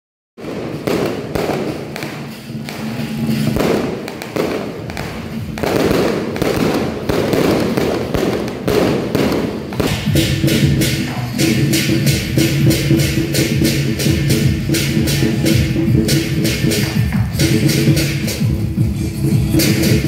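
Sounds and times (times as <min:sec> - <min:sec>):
firecrackers popping: 0:00.4 - 0:18.2.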